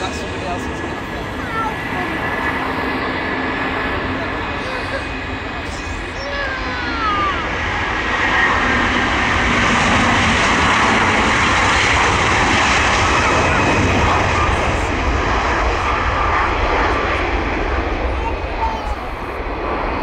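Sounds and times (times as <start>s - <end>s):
jet engines at takeoff thrust: 0.0s - 20.0s.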